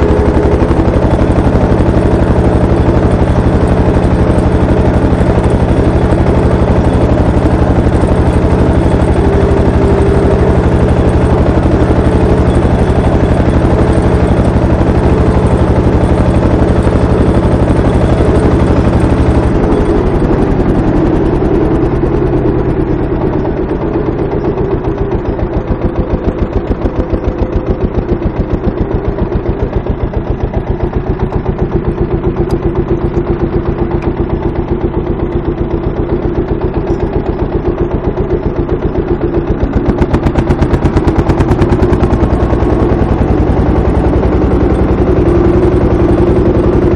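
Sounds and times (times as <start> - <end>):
diesel engine chugging: 0.0 - 46.9.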